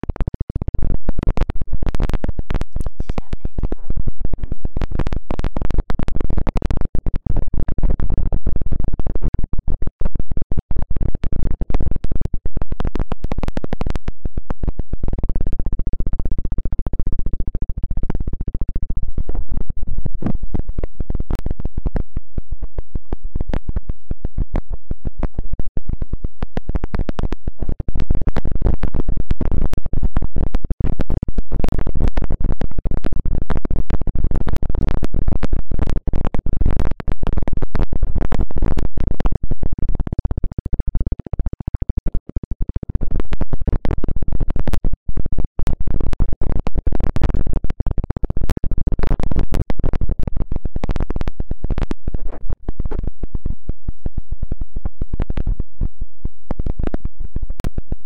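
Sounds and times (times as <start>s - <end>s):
fingers scratching microphone: 0.0s - 58.0s.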